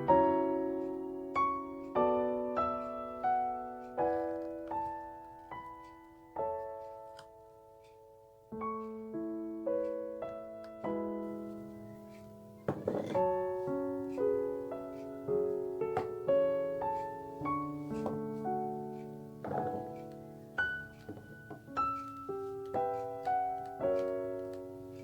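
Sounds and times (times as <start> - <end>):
gentle piano piece: 0.0 - 25.0.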